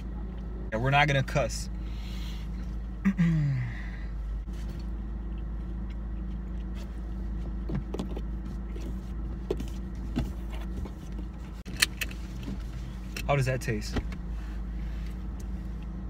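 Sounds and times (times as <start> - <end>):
car engine hum inside cabin: 0.0 - 16.0.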